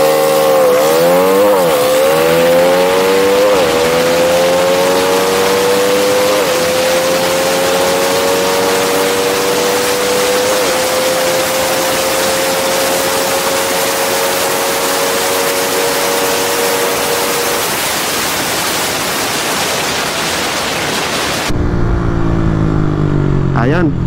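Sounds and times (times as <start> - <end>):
motorcycle engine cruising: 0.0 - 18.2, 21.4 - 24.0.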